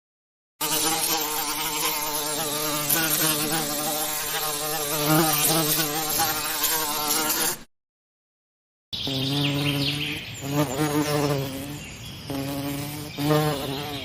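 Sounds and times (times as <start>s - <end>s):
bee buzzing in flight: 0.6s - 7.7s, 9.1s - 14.0s.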